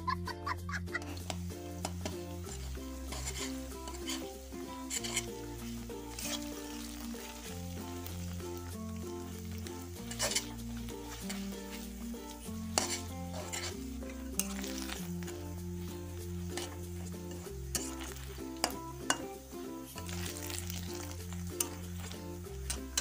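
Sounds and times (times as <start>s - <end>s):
background music with bass: 0.0s - 23.0s
food sizzling in oil: 0.0s - 23.0s
metal spatula scraping pan: 1.0s - 23.0s.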